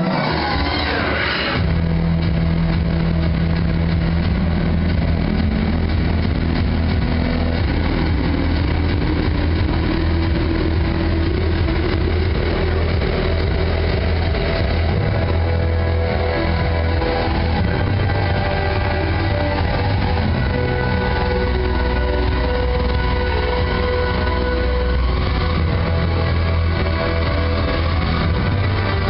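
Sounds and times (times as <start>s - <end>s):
film soundtrack over loudspeakers: 0.0s - 29.0s.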